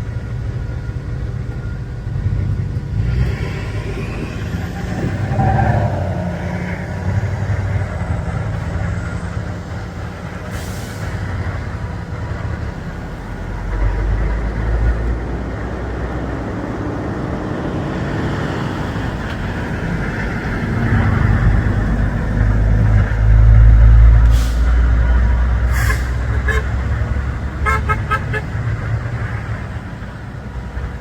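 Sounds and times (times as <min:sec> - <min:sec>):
truck engine rumbling: 0:00.0 - 0:31.0.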